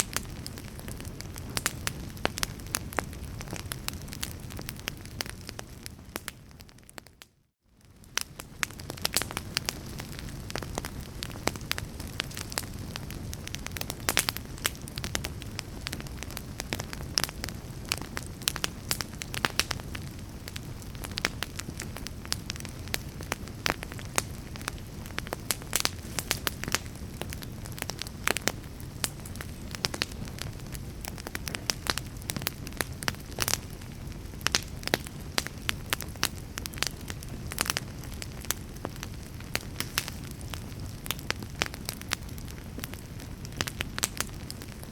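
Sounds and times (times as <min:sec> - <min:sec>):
fire crackling: 0:00.0 - 0:44.9.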